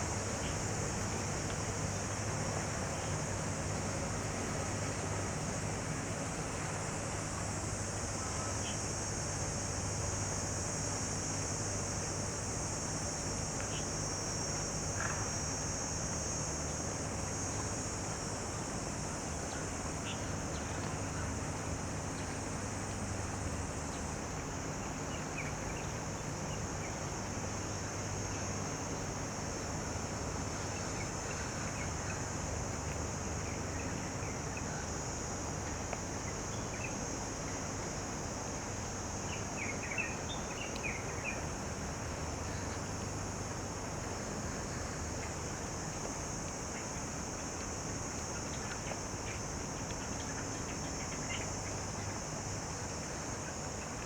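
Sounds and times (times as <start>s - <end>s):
cicada chorus drone: 0.0s - 54.0s.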